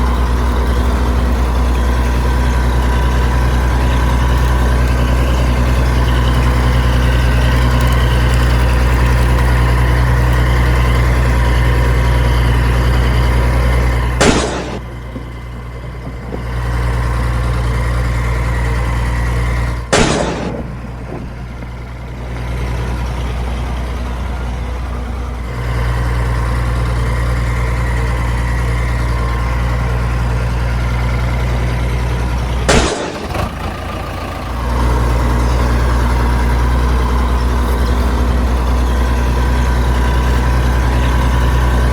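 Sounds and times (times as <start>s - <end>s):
engine cutting off with click: 0.0s - 41.9s
heavy engine idling: 0.0s - 41.9s.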